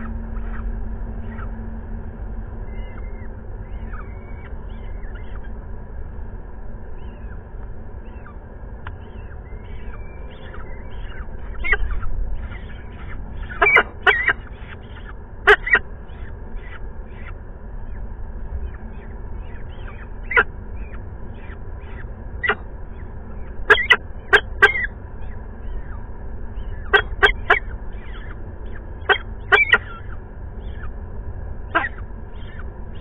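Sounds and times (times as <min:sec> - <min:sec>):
chicks begging cheeps: 0:00.0 - 0:01.6, 0:02.6 - 0:05.6, 0:08.0 - 0:31.0, 0:31.6 - 0:33.0
harsh falcon calls: 0:00.0 - 0:01.6, 0:02.6 - 0:05.6, 0:09.0 - 0:18.0, 0:18.7 - 0:26.0, 0:26.6 - 0:31.0, 0:31.7 - 0:33.0
low rumble: 0:00.0 - 0:33.0.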